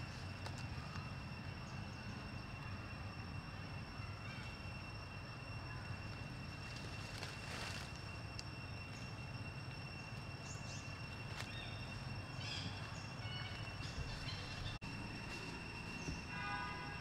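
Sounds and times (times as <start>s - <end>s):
high-pitched whine: 0.0s - 17.0s
steady low rumble: 0.0s - 17.0s.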